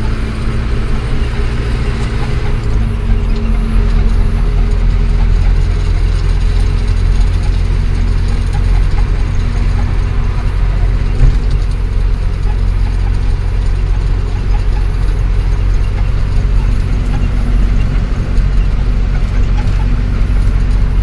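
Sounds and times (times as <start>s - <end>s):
road noise: 0.0s - 21.0s
truck diesel engine rumble: 0.0s - 21.0s.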